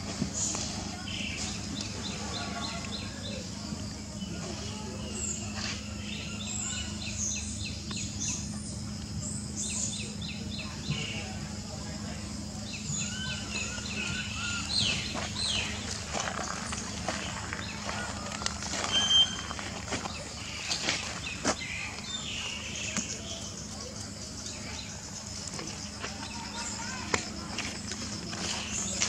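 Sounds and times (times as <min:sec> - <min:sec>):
birds chirping: 0:00.0 - 0:29.0
falling bird calls: 0:00.0 - 0:29.0
steady low hum: 0:00.0 - 0:29.0.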